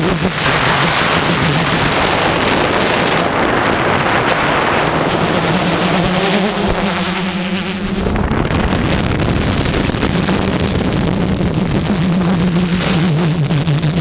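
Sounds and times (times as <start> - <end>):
drone propellers humming: 0.0 - 14.0
wind on microphone: 0.0 - 14.0.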